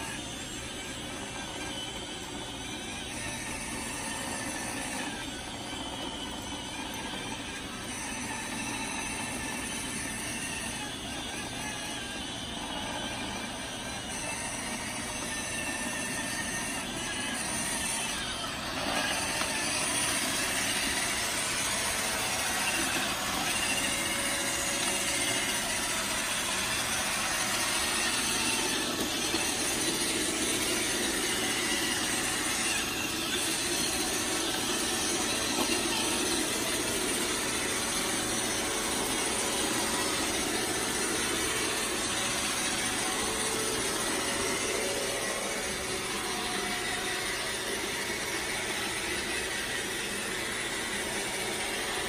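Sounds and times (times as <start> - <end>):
robot vacuum whirring: 0.0 - 52.0.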